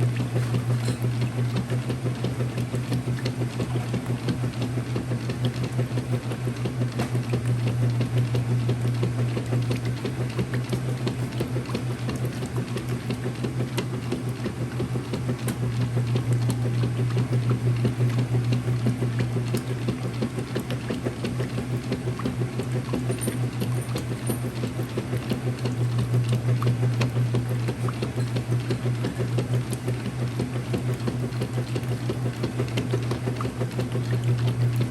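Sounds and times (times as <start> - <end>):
washing machine humming: 0.0 - 34.9
water sloshing in a tub: 0.0 - 34.9.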